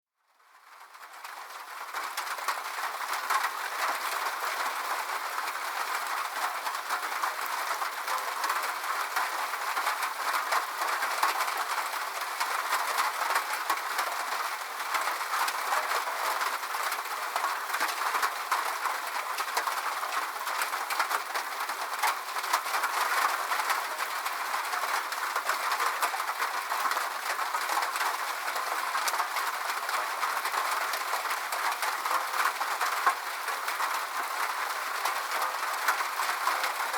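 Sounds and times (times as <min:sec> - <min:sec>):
rain on a metal roof: 0:00.2 - 0:36.9.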